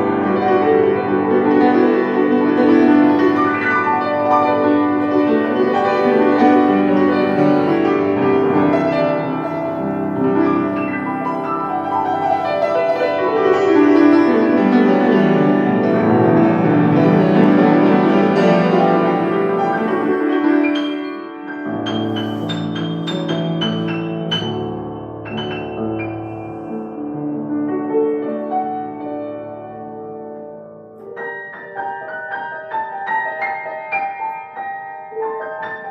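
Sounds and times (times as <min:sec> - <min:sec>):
solo piano playing: 0:00.0 - 0:35.9.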